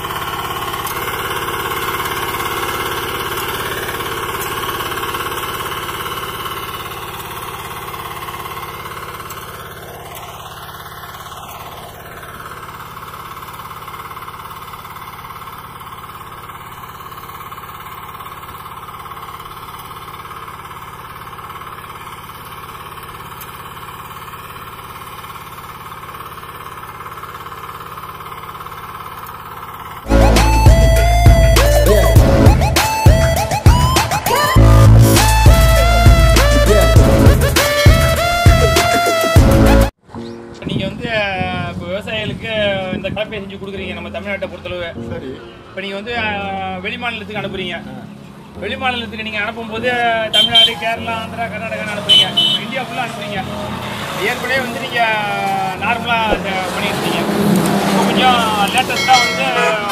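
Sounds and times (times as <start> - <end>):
diesel tiller engine running: 0.0 - 59.9.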